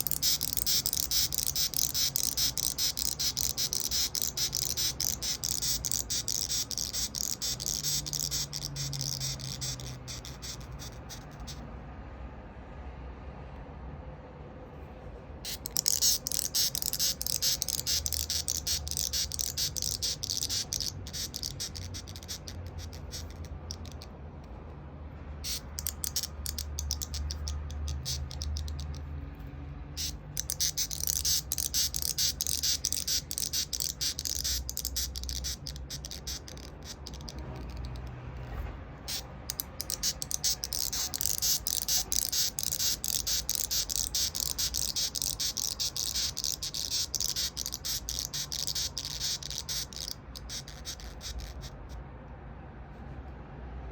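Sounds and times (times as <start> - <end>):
beetle rasping squeaks: 0.0 - 11.6, 15.4 - 24.1, 25.4 - 29.0, 30.0 - 38.1, 39.1 - 52.0.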